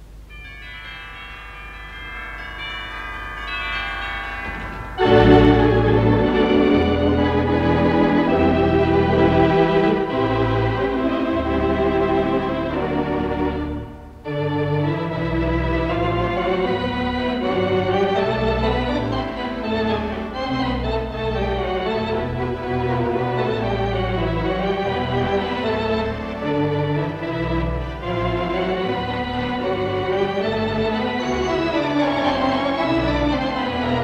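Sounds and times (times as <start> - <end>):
theatre organ playing: 0.0 - 34.0
deep organ pedal bass notes: 5.0 - 34.0.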